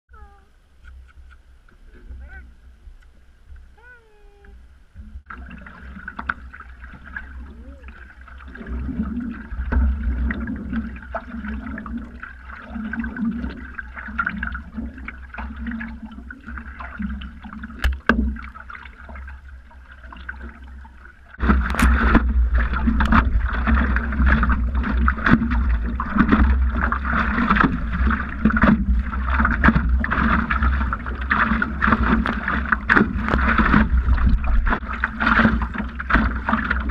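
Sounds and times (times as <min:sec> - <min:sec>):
water splashing: 0:00.8 - 0:36.9.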